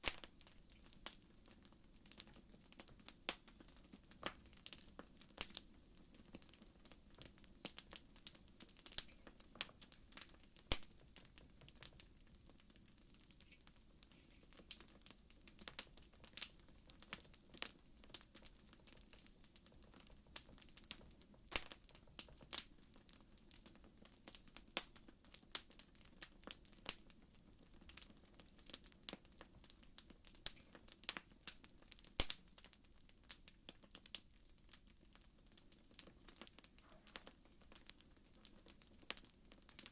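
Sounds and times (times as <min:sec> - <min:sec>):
campfire crackling: 0:00.0 - 0:39.9
faint low background noise: 0:00.0 - 0:39.9.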